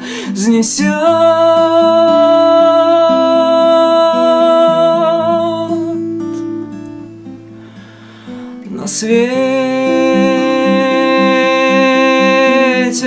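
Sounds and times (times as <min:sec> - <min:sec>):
picked guitar arpeggio: 0:00.0 - 0:13.0.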